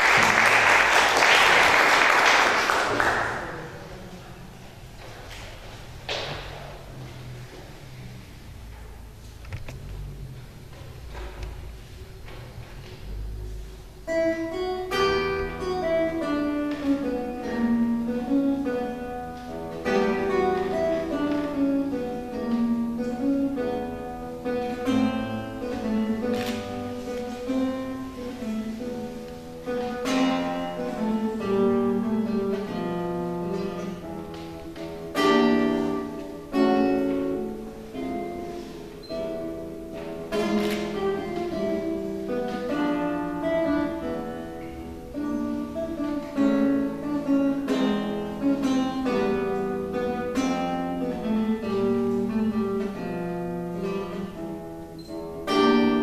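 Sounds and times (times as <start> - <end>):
classical guitar solo: 0.0 - 56.0.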